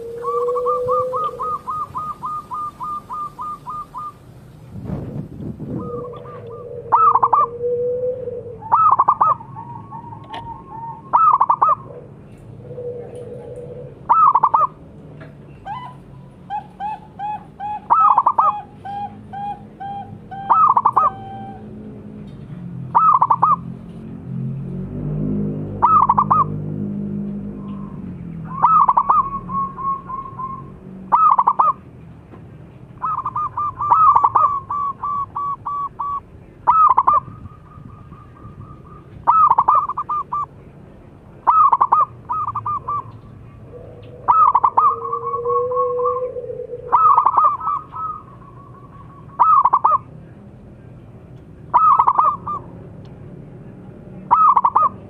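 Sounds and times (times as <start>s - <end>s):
dove cooing: 0.0s - 4.3s, 5.6s - 21.8s, 22.9s - 23.8s, 25.7s - 31.8s, 32.9s - 40.7s, 41.4s - 50.3s, 51.6s - 52.9s, 54.3s - 55.0s.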